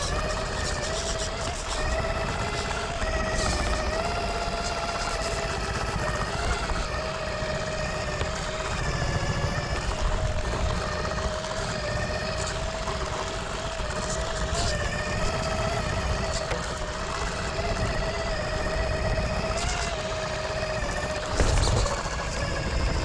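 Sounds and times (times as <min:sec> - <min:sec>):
electric drivetrain whining: 0:00.0 - 0:23.0
tires rumbling on stone: 0:00.0 - 0:23.0.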